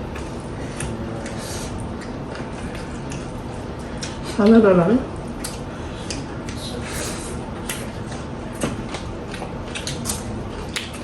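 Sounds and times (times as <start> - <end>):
person chewing with mouth smacks: 0.1 - 4.3, 5.3 - 11.0.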